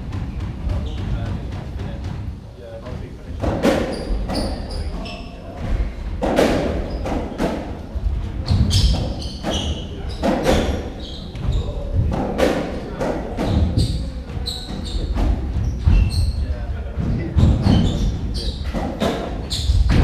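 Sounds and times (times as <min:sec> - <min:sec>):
shoes squeaking on wooden floor: 0:00.6 - 0:05.9, 0:08.4 - 0:12.5, 0:13.4 - 0:20.0.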